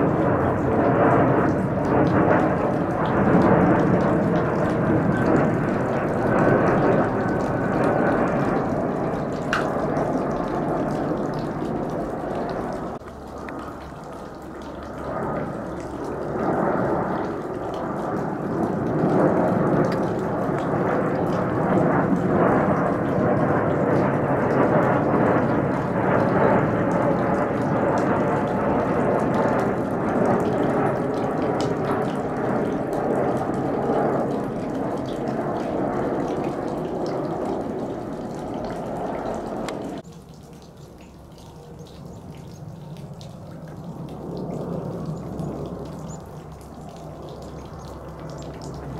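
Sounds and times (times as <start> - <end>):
jet engines roaring overhead: 0.0 - 40.1, 41.6 - 48.9.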